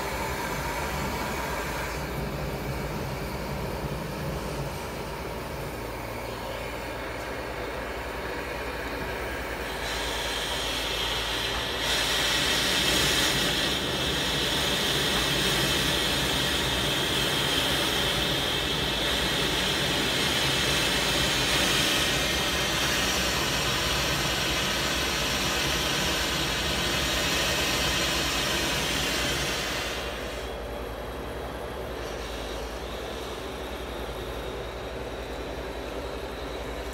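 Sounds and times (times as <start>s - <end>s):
torch flame roaring hiss: 0.0s - 36.9s.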